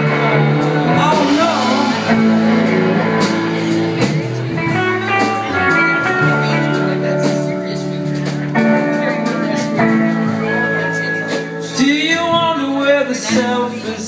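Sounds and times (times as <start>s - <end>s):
live band music: 0.0s - 14.0s
steady bass line: 0.0s - 14.0s.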